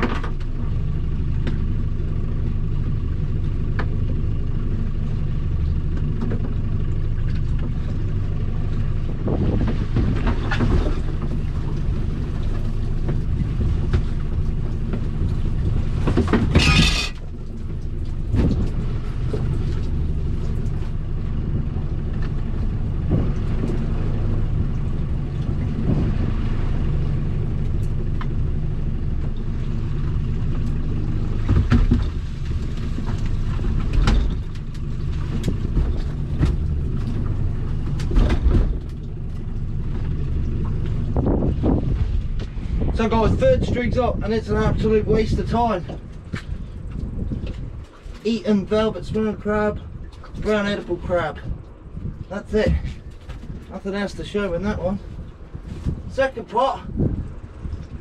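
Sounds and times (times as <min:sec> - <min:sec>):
outboard engine running: 0:00.0 - 0:58.0
water noise: 0:00.0 - 0:58.0
wind: 0:00.0 - 0:58.0.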